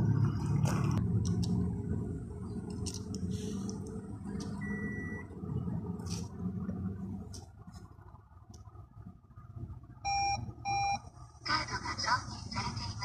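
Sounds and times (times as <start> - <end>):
car cabin low hum: 0.0 - 13.0.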